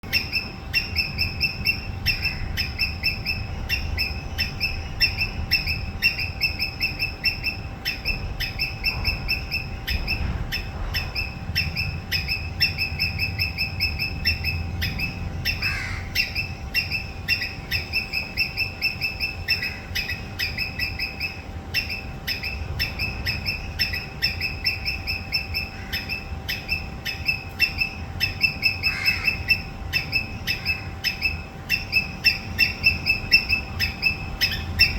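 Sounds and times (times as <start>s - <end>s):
squirrel alarm chatter: 0.0s - 34.9s.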